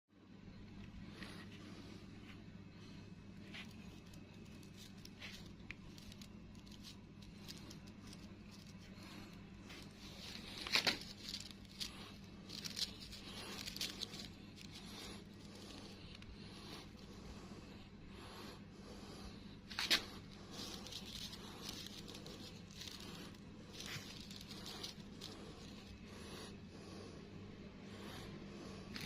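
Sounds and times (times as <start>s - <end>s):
low steady hum: 0.1s - 29.0s
rustling and crinkling: 1.0s - 17.7s, 18.4s - 26.6s, 28.2s - 29.0s.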